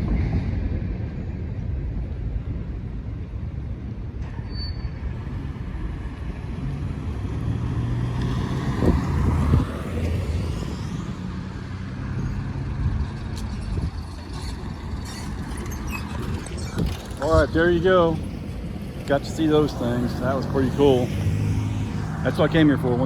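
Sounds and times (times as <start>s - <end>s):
heavy vehicles rumbling past: 0.0s - 23.0s
engine drone: 3.4s - 23.0s.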